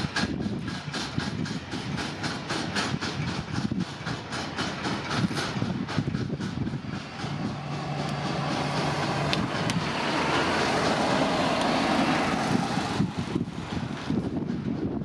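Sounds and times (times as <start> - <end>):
jet engines rushing hiss: 0.0 - 15.0.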